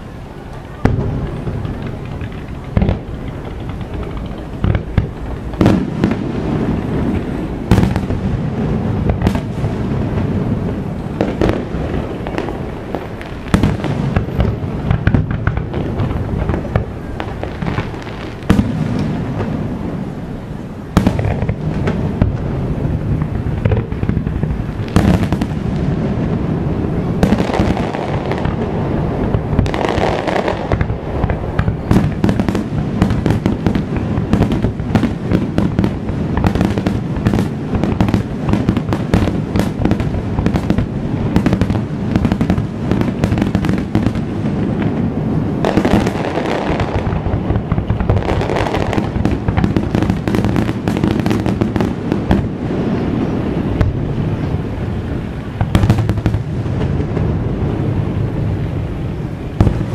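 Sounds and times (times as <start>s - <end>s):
fireworks bursts and bangs: 0.0s - 59.9s
fireworks crackle: 0.0s - 59.9s.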